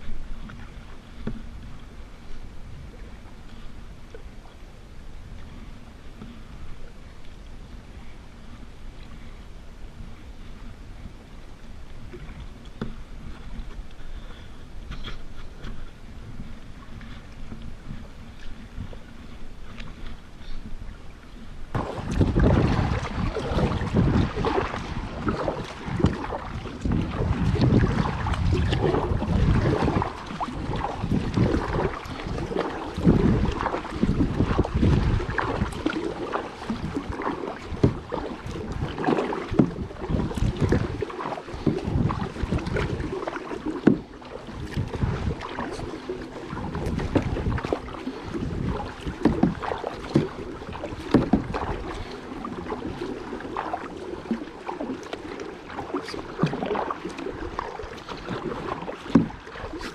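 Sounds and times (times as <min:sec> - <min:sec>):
paddle splashing water: 0:00.0 - 0:59.9
wind buffeting microphone: 0:05.1 - 0:59.9.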